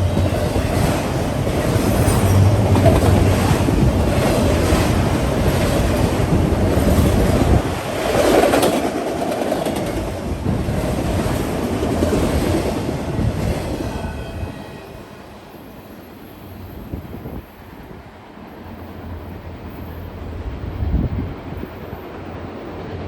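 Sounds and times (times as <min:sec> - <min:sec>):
train passing on rails: 0:00.0 - 0:23.0.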